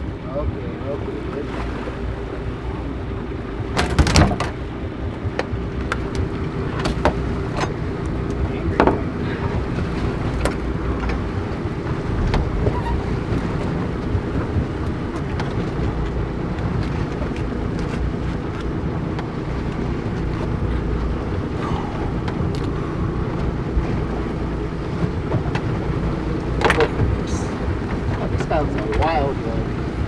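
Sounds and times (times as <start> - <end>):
boat engine running: 0.0 - 30.0
wind noise on microphone: 3.6 - 30.0.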